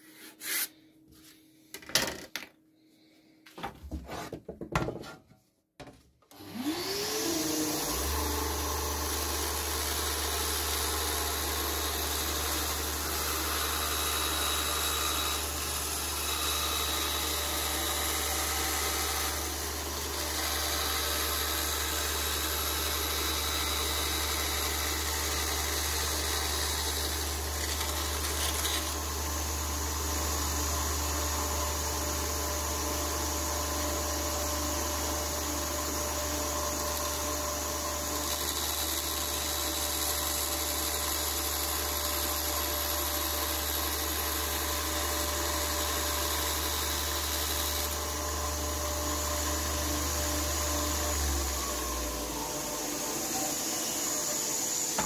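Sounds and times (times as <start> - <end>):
band saw cutting board: 0.0 - 0.8, 6.3 - 34.1, 35.2 - 55.0.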